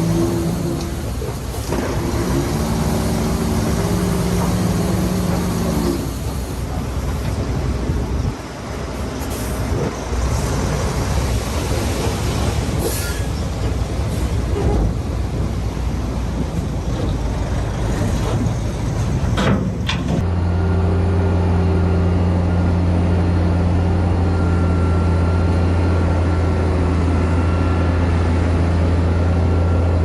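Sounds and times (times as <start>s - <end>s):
heavy diesel machinery engine: 0.0s - 30.0s.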